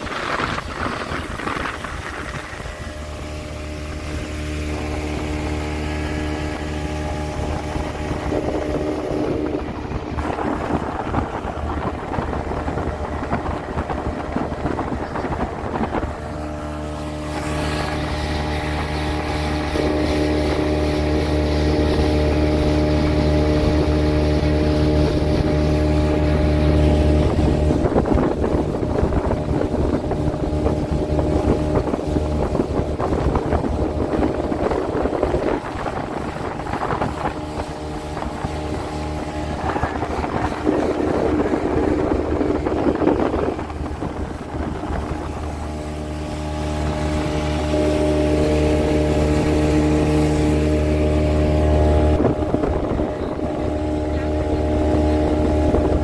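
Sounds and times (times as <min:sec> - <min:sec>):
speedboat engine humming: 0:00.0 - 0:56.0
water rushing past: 0:00.0 - 0:56.0
wind buffeting microphone: 0:00.0 - 0:56.0.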